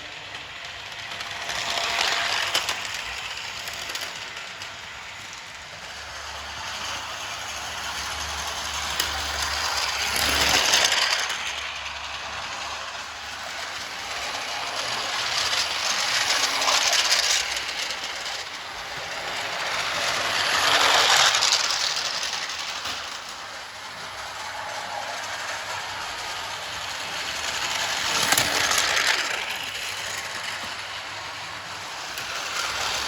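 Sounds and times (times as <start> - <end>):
toy train rattling whir: 0.0 - 33.0.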